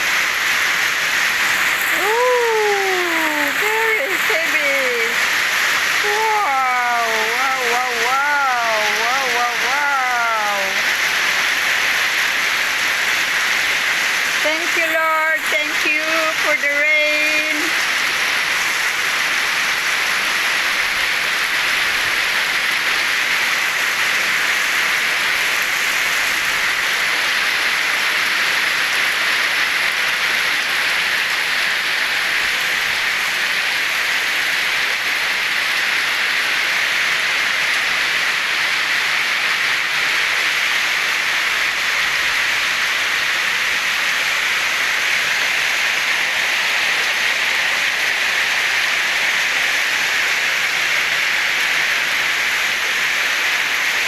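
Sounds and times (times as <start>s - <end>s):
heavy rain on water: 0.0s - 54.0s.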